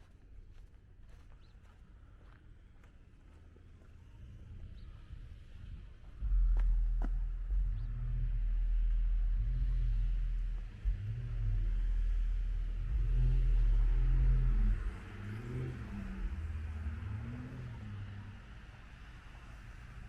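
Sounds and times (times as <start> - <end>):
traffic engines rumbling: 3.4 - 20.0.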